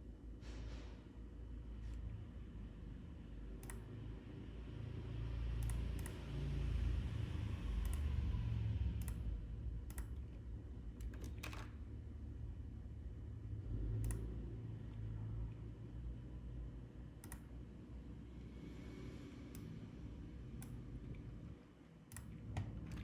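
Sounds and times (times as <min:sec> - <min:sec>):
steady low rumble: 0:01.1 - 0:23.0.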